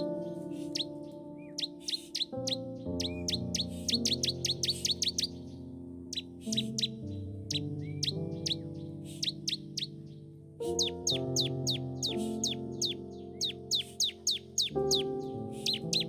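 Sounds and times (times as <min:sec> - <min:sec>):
bird chirping: 0:00.0 - 0:16.0
soft music of held chords: 0:00.0 - 0:16.0.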